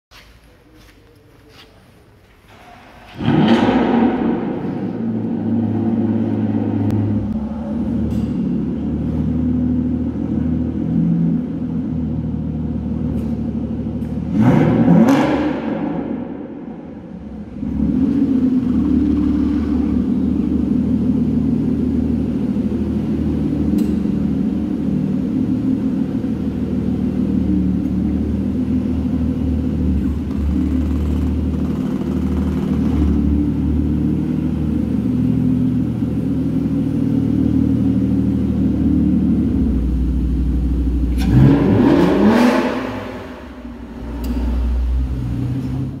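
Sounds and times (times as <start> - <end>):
car engine idling and revving: 2.9 - 46.0.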